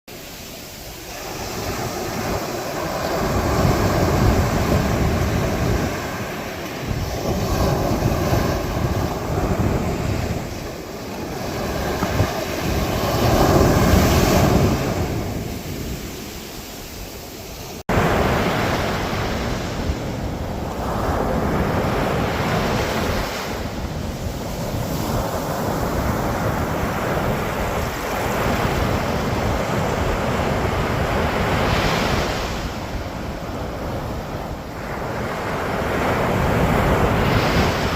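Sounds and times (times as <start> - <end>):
ocean surf breaking on beach: 0.1 - 37.9
wind buffeting microphone: 0.6 - 37.9.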